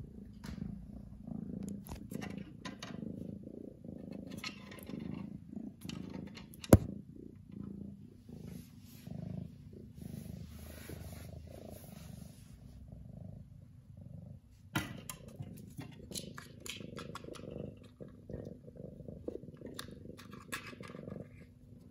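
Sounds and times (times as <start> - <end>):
cat purring: 0.0 - 21.9.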